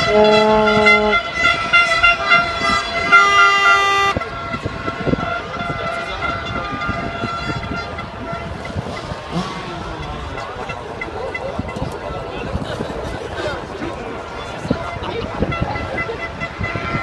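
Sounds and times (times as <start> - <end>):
loud horn blast: 0.0 - 12.6, 14.1 - 17.0
horns blowing long notes: 0.0 - 17.0.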